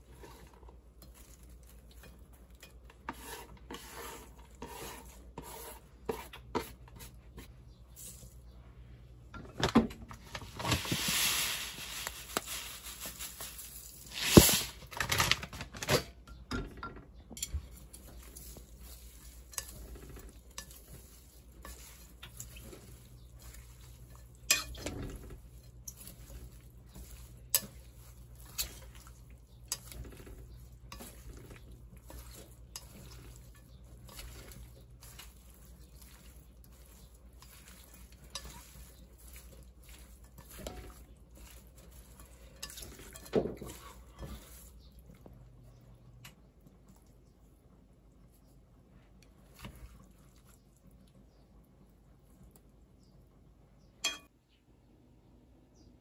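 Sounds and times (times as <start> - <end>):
vegetables rustling in bowl: 0.0 - 8.7, 10.2 - 16.5, 17.2 - 48.6, 49.3 - 51.5.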